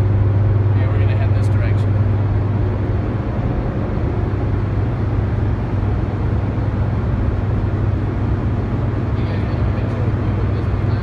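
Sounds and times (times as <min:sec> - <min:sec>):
low generator hum: 0:00.0 - 0:11.0
machine noise wash: 0:00.0 - 0:11.0.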